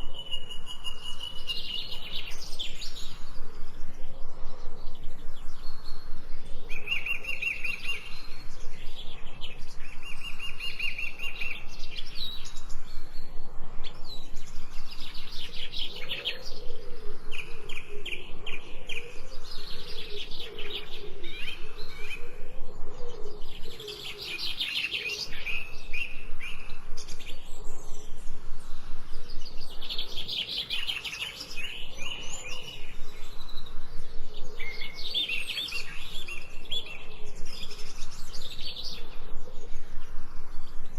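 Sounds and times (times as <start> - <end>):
songbirds singing and trilling: 0.0 - 40.9.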